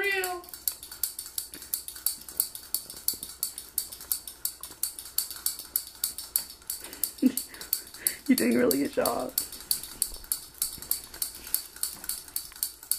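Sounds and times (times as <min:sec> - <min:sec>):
plastic beads clicking: 0:00.0 - 0:12.9.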